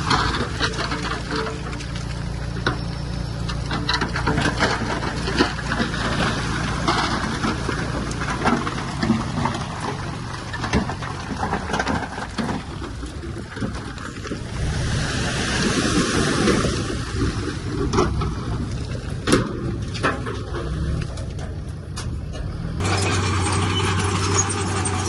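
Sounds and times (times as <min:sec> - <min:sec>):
bulldozer diesel engine running: 0:00.0 - 0:25.0
clanking tracks and stones: 0:00.0 - 0:25.0.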